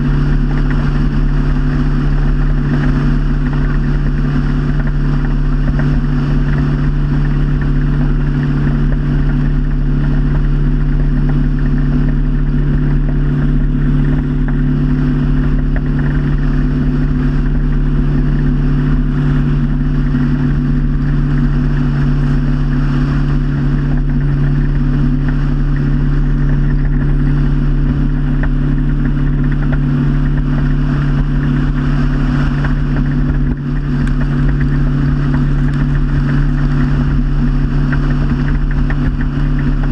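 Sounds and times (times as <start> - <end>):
motorboat engine running: 0.0 - 39.9
water and air rushing: 0.0 - 39.9.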